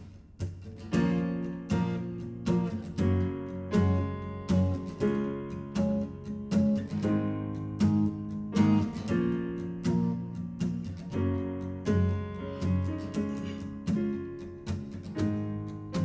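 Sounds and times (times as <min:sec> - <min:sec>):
acoustic guitar strumming: 0:00.0 - 0:16.0
digital piano playing: 0:00.9 - 0:16.0.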